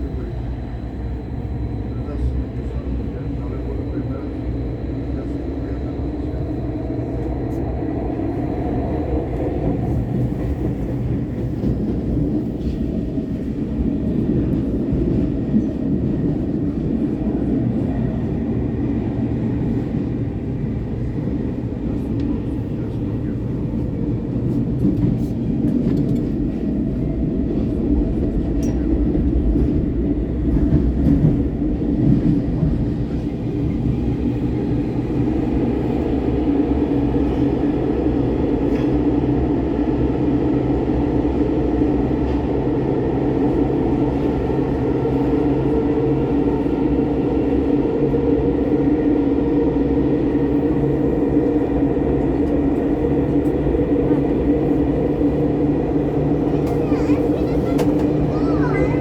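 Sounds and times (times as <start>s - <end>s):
electric train running rumble: 0.0s - 59.0s
train hum: 0.0s - 59.0s.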